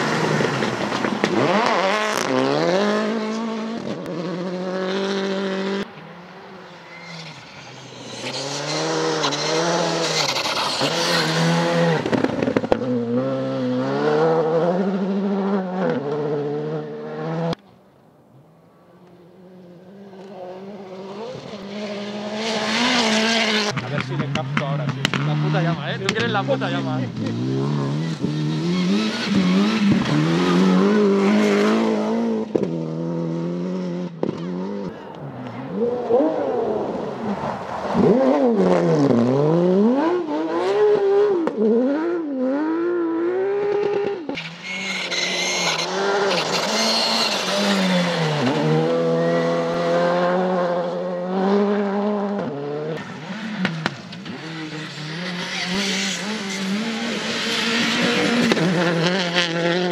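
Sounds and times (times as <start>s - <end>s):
rally car engines revving: 0.0s - 17.6s, 18.9s - 59.9s.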